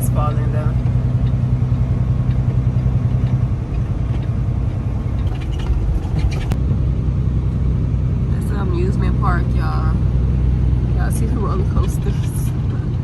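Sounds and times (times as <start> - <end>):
road noise: 0.0 - 13.0
truck diesel engine drone: 0.0 - 13.0.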